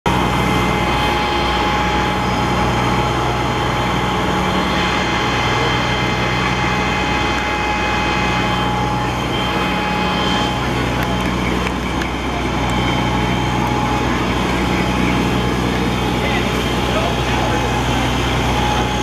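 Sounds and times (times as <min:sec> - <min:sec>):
fire engine pumps droning: 0:00.0 - 0:19.0.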